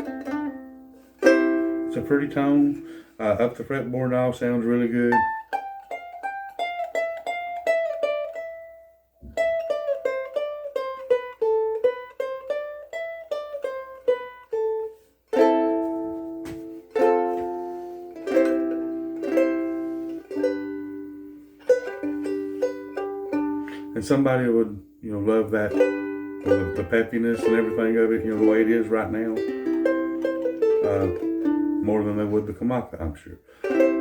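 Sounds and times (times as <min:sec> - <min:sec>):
ukulele single picked notes: 0:00.0 - 0:03.0, 0:05.1 - 0:24.0, 0:25.5 - 0:32.4, 0:33.6 - 0:34.0
ukulele strummed chords: 0:00.0 - 0:34.0.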